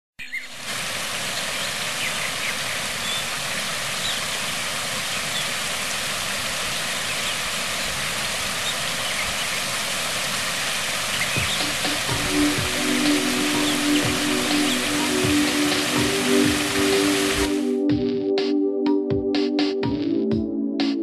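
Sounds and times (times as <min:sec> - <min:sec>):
small waterfall splashing: 0:00.3 - 0:17.7.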